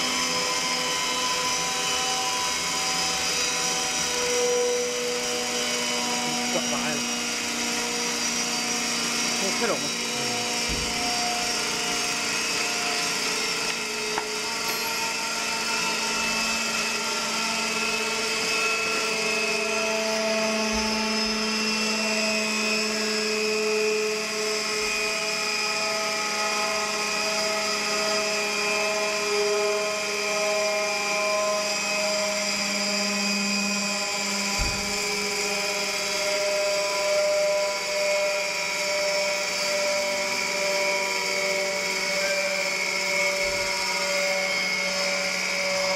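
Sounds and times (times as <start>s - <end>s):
centrifuge high-pitched whine: 0.0s - 45.9s.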